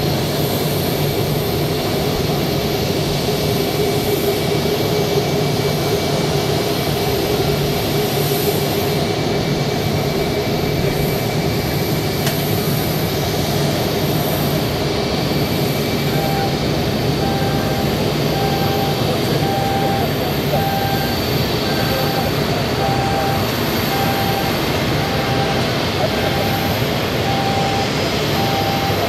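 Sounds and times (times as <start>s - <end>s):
jet engines whining at taxi: 0.0s - 29.0s.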